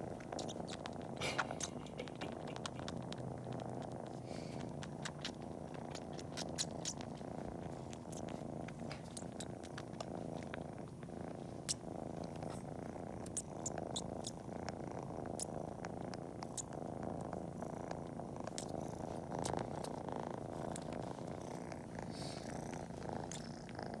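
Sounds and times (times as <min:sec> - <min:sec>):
kitten purring: 0:00.0 - 0:24.0.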